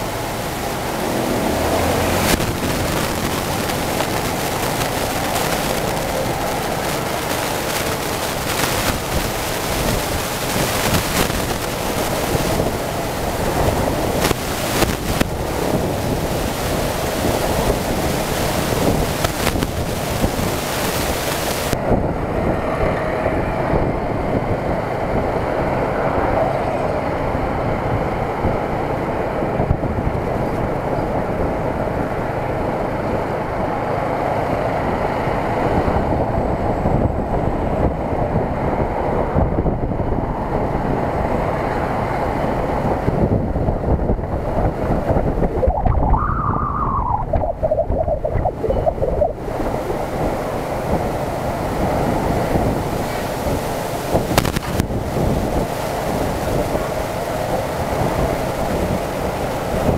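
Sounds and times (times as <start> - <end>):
motorcycle engine and road noise: 0.0 - 59.9
wind rushing over microphone: 0.0 - 59.9.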